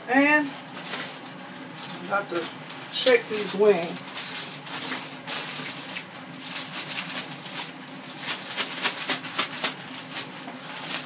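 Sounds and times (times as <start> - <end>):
plastic bag rustling: 0.4 - 11.0.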